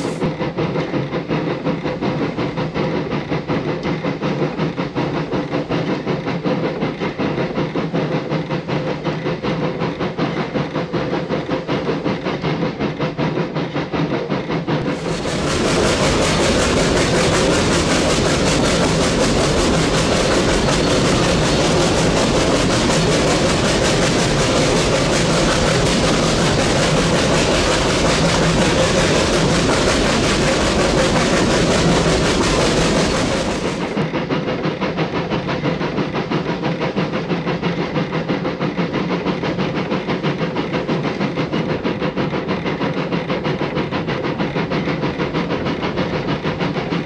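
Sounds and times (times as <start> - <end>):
steam train running: 0.0 - 47.0.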